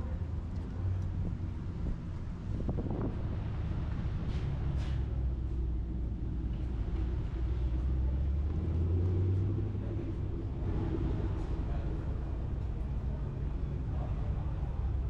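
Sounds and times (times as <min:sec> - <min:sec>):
low car engine rumble: 0:00.0 - 0:15.0.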